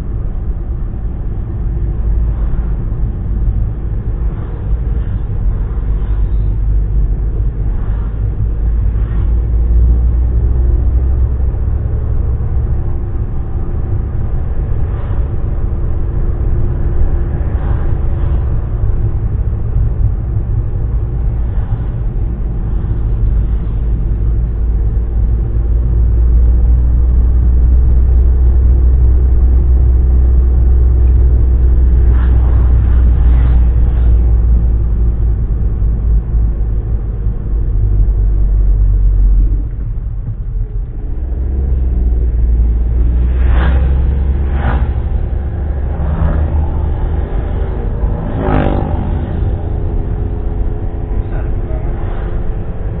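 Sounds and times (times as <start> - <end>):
car engine and road noise: 0.0 - 53.0.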